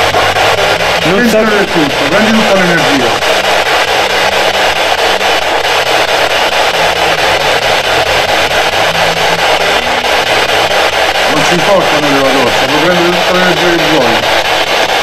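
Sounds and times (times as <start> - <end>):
radio static with flutter: 0.0 - 15.0.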